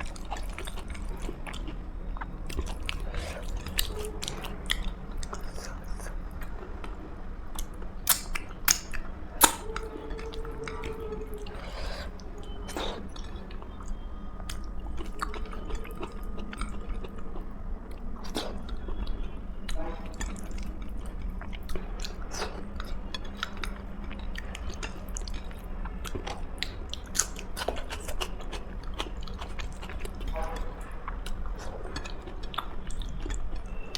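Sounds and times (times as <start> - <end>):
person chewing food: 0.0 - 33.9.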